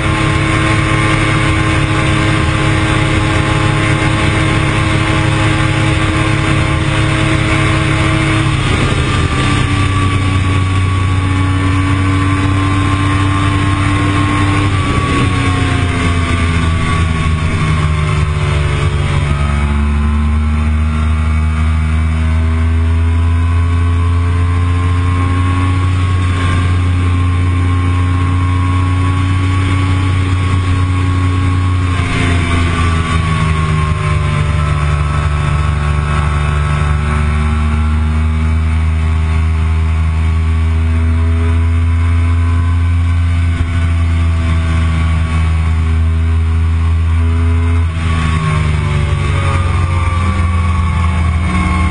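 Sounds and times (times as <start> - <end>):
motorcycle engine revving through gears: 0.0 - 51.9.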